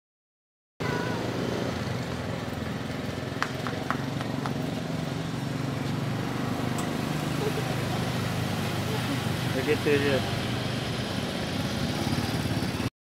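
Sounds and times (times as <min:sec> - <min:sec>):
car engine running: 0:00.8 - 0:12.9.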